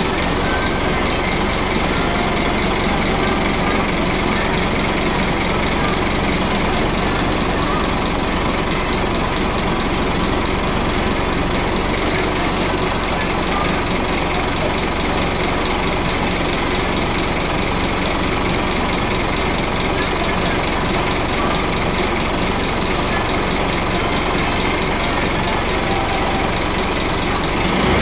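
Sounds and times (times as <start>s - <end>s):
bus diesel engine idling: 0.0s - 28.0s.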